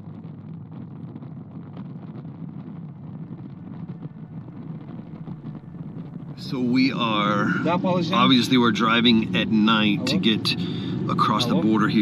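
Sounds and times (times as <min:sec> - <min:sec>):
tyre and engine rumble in car: 0:00.0 - 0:12.0.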